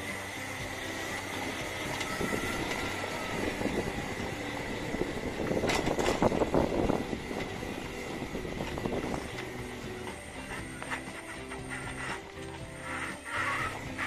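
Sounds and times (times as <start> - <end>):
electric motor whine: 0.0 - 14.0
go-kart frame rattling: 0.0 - 14.0.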